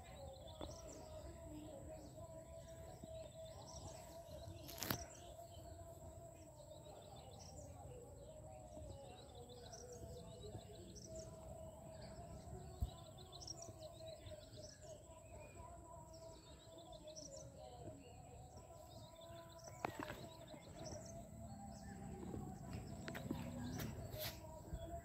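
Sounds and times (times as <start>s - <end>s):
faint high bird chirps: 0.0s - 25.0s
steady outdoor hum: 0.0s - 25.0s.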